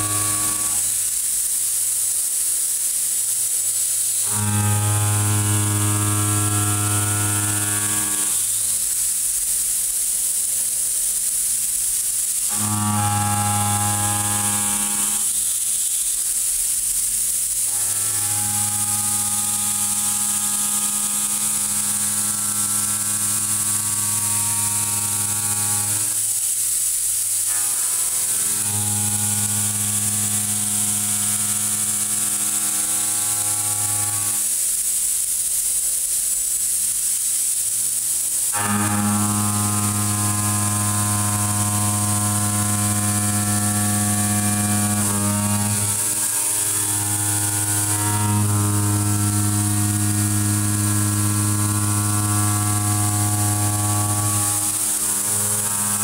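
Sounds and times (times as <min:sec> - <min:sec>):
milling cutter humming in steel: 0:00.0 - 0:01.3, 0:03.7 - 0:09.7, 0:10.4 - 0:16.4, 0:17.0 - 0:34.7, 0:37.7 - 0:56.0
constant hiss: 0:00.0 - 0:56.0.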